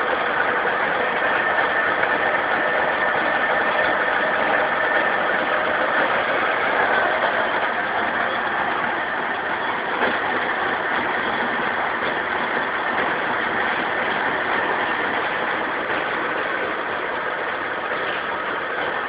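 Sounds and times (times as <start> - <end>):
two-stroke engine idling: 0.0 - 19.0.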